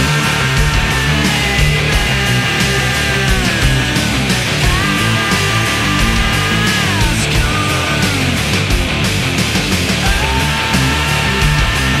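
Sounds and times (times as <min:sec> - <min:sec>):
loud hard rock music: 0:00.0 - 0:12.0.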